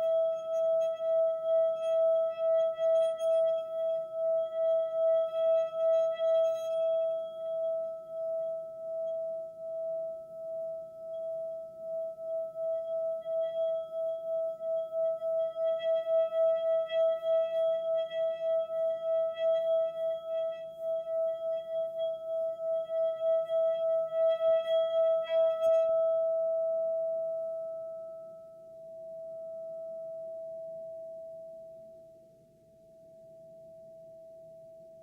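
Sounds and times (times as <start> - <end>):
throbbing sustained ringing tone: 0.0 - 32.2.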